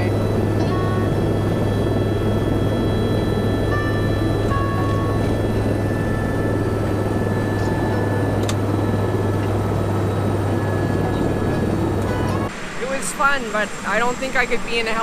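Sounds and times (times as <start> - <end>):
helicopter engine drone: 0.0 - 15.0
high turbine whine: 0.0 - 15.0.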